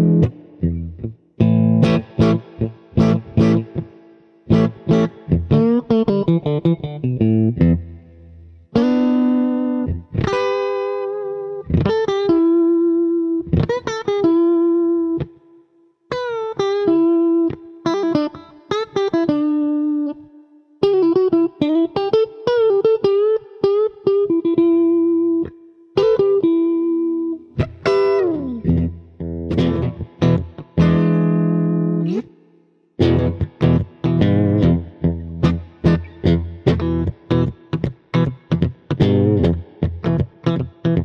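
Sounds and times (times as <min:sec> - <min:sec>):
clean electric guitar lead: 0:00.0 - 0:15.4, 0:20.8 - 0:32.4, 0:33.0 - 0:41.0.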